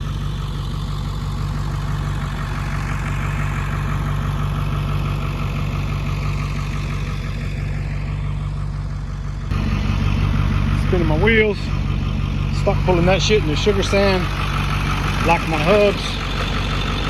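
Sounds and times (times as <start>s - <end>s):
vehicle engine running at low revs: 0.0s - 17.0s.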